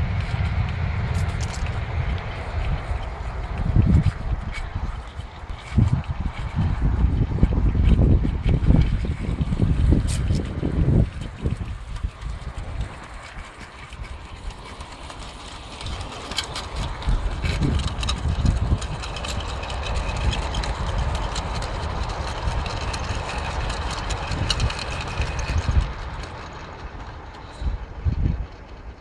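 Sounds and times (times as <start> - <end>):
model train rumbling on track: 0.0 - 29.0
wheels clicking on rails: 0.0 - 29.0.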